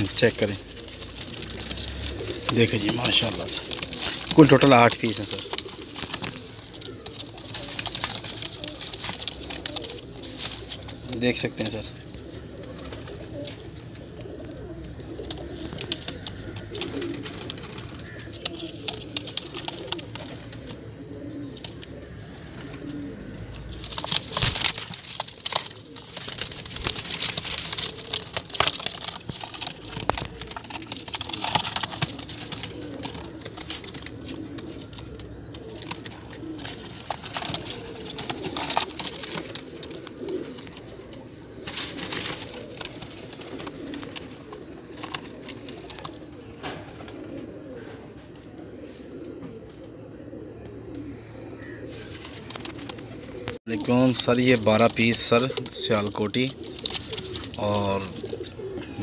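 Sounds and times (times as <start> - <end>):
birds scuffing and rustling: 0.0 - 59.0
pigeons cooing: 0.0 - 59.0.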